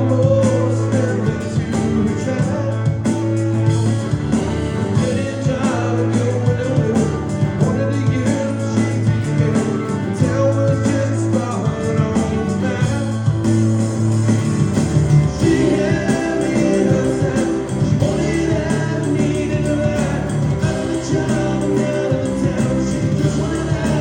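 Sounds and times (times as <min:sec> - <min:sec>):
live rock and roll band: 0:00.0 - 0:24.0.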